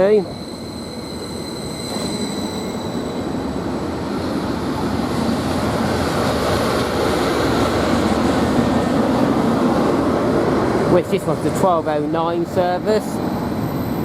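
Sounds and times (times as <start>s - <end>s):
diesel train approaching: 0.0s - 14.0s
train wheel noise: 0.0s - 14.0s.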